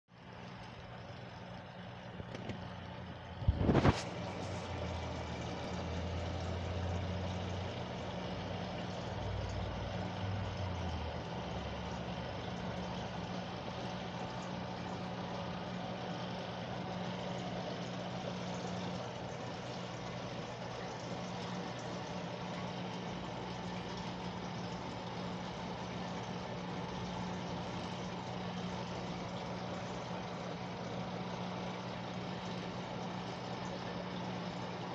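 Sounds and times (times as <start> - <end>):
aquarium filter pump humming: 0.1 - 34.9.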